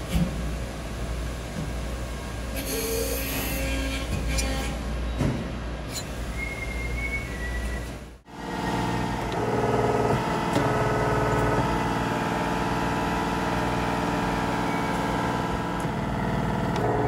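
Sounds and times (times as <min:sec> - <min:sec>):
shop machinery hum: 0:00.0 - 0:17.0.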